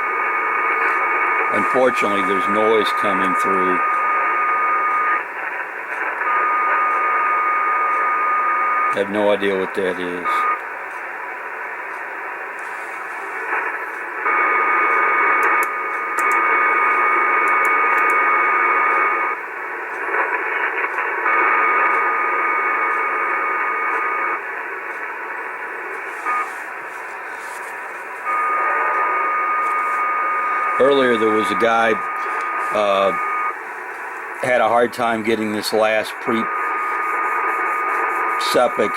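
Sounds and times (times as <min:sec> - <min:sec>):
buzzing noise with steady tones: 0:00.0 - 0:38.9
radio band hiss: 0:00.0 - 0:38.9.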